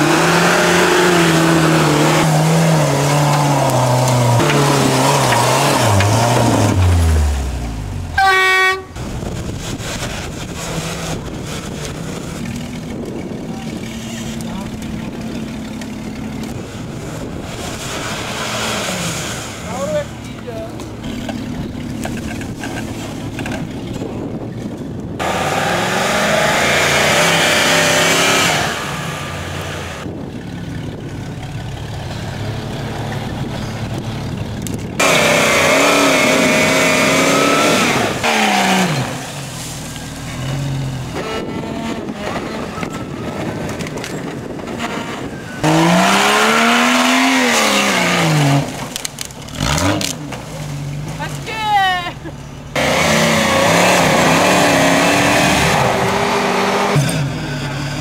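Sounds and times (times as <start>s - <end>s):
off-road engines revving hard: 0.0s - 58.0s.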